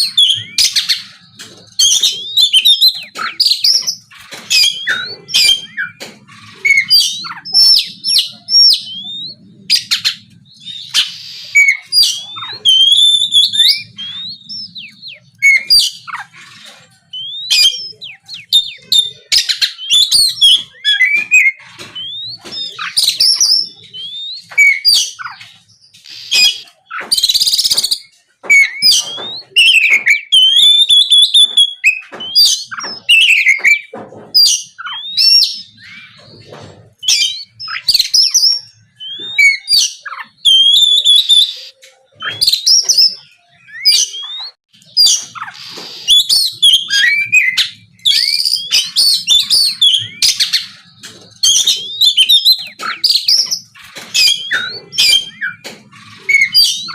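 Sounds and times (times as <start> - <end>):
magpie-robin singing: 0.0 - 56.9.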